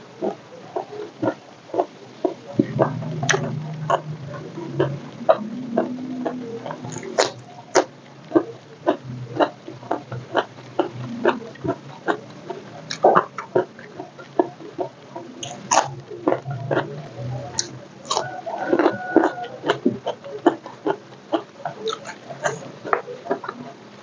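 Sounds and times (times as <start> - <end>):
crunchy food chewing: 0.2 - 23.8
wet mouth sounds: 1.2 - 21.0.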